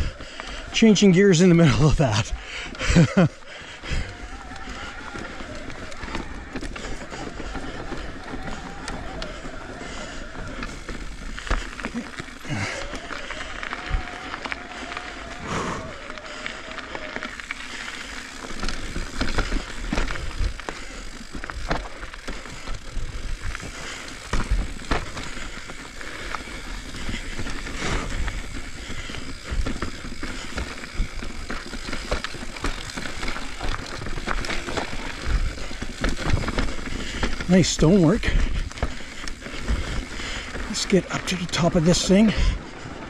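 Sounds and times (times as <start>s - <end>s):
bike rattling and knocking: 0.0s - 43.0s
tyre and trail noise: 0.0s - 43.0s.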